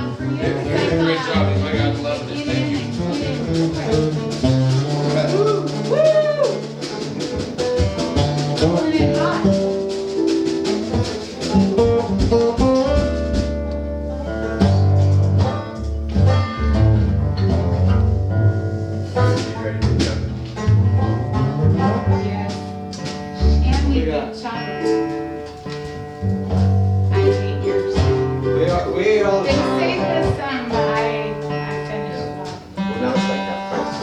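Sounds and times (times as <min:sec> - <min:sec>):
acoustic bluegrass band playing: 0:00.0 - 0:34.0.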